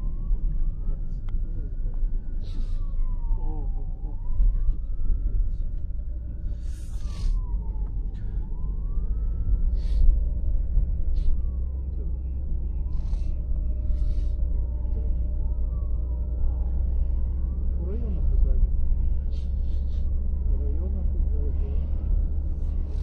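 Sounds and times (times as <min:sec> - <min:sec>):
road noise: 0:00.0 - 0:23.0
siren wailing: 0:00.0 - 0:23.0
vehicle engine rumble: 0:00.0 - 0:23.0.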